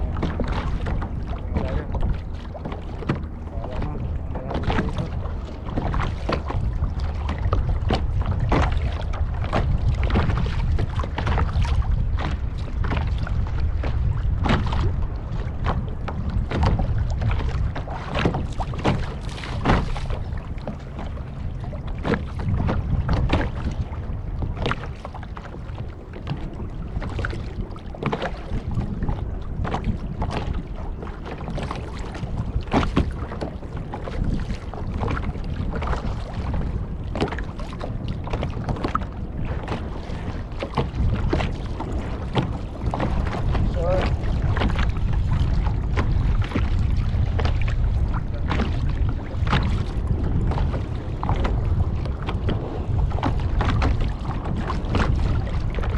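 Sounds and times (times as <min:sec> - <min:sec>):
water slapping against kayak hull: 0:00.0 - 0:55.9
wind rumble on microphone: 0:00.0 - 0:55.9.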